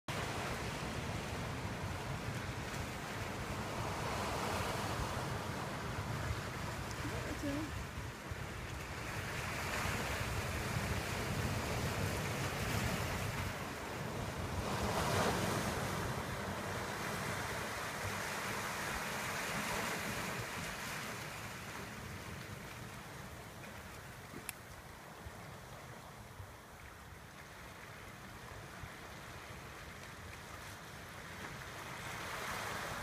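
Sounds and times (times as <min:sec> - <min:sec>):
surf washing over rocks: 0:00.1 - 0:33.0.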